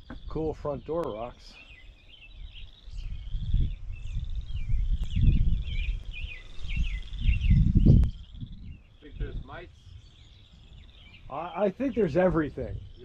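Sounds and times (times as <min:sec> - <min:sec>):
birds chirping and trilling: 0:00.0 - 0:13.0
wind buffeting microphone: 0:00.0 - 0:13.0.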